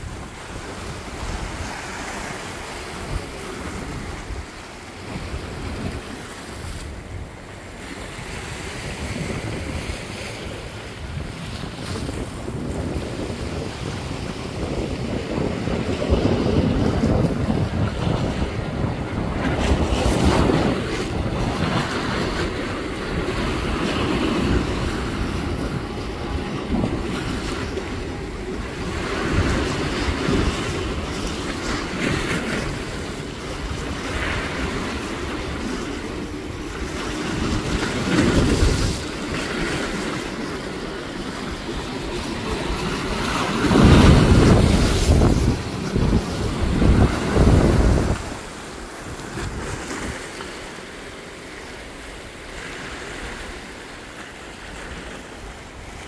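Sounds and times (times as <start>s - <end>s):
wind buffeting microphone: 0.0s - 54.0s
sea water splashing: 0.0s - 56.0s.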